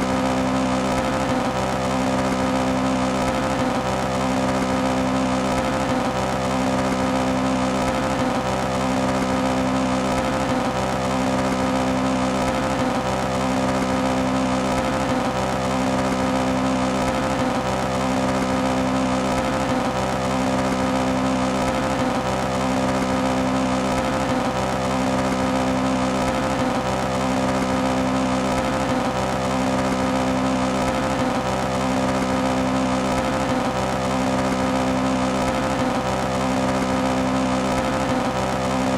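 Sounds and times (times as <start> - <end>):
car engine running steadily: 0.0 - 38.9.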